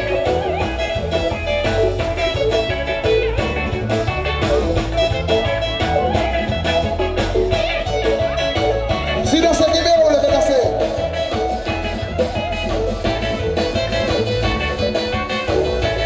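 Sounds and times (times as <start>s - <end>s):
live band music: 0.0s - 16.0s
plucked guitar: 0.0s - 16.0s.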